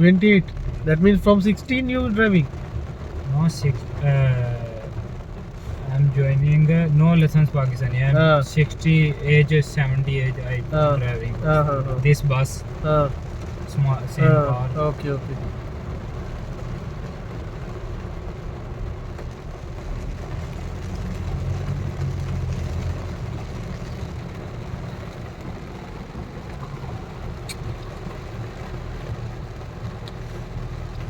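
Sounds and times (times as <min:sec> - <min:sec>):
car engine rumble from inside: 0:00.0 - 0:31.0.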